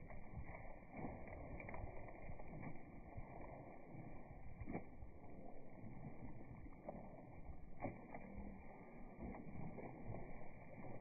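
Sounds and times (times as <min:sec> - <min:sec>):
dog splashing through creek: 0:00.0 - 0:11.0.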